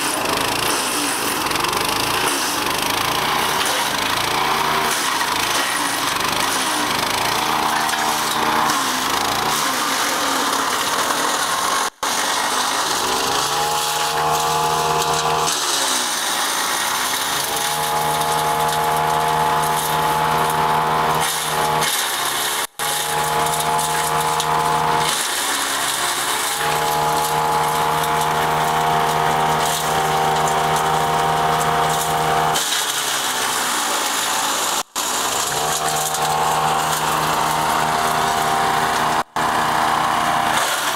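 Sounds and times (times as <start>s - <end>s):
wood chipper engine labouring: 0.0s - 40.9s.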